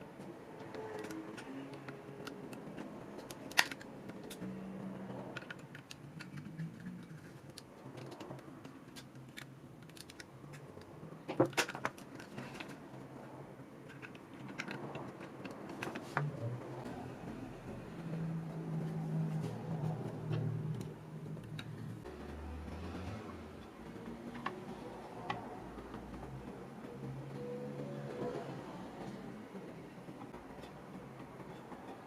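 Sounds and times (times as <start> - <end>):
small hard parts clicking: 0.2 - 32.0.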